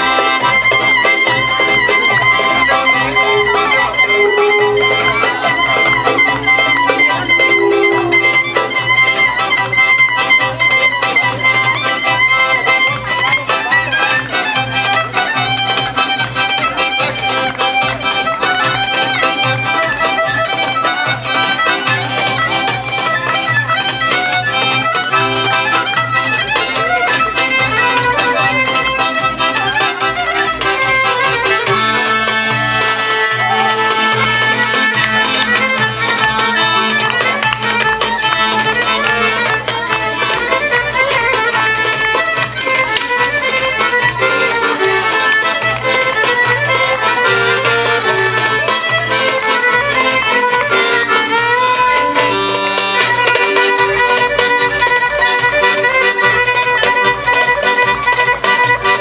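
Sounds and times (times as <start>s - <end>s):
accordion: 0.0s - 59.0s
violin folk dance music: 0.0s - 59.0s.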